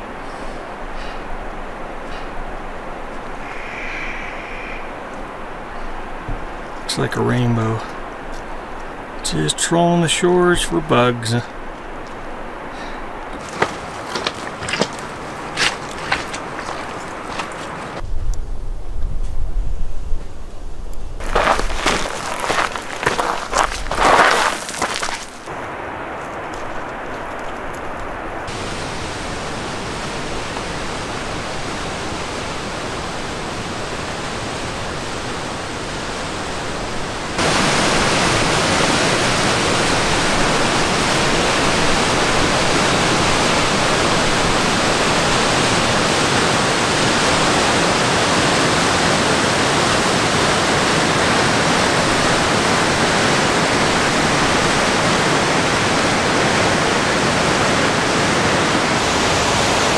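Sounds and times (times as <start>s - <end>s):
creek water rushing over boulders: 0.0s - 18.0s, 21.2s - 59.9s.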